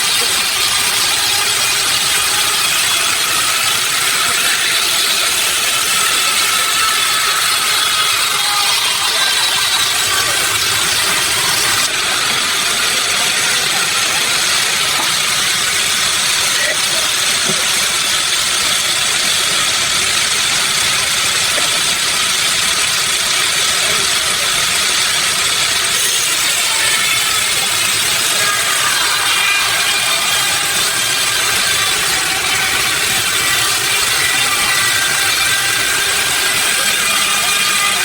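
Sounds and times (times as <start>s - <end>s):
faint steady whine: 0.0s - 38.0s
sawmill machinery running: 0.0s - 38.0s.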